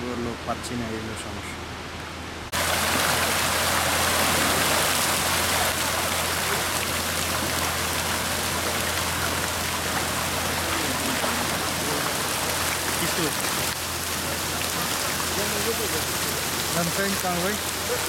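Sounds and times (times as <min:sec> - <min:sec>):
fish splashing in water: 0:02.5 - 0:18.0
aerator water spray: 0:02.6 - 0:18.0.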